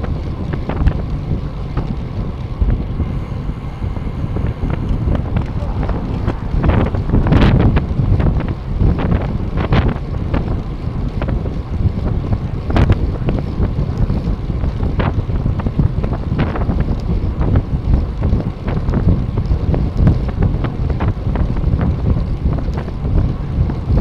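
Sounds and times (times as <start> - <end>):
bicycle clicks and rattles: 0.0 - 24.0
wind buffeting microphone: 0.0 - 24.0.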